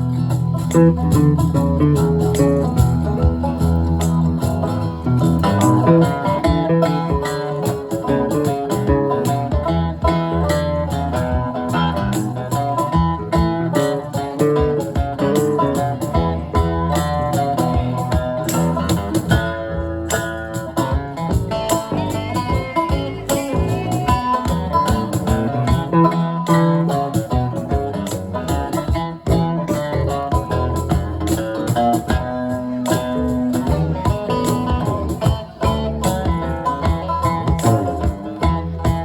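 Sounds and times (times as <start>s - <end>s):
live band instrumental with guitar: 0.0s - 39.0s.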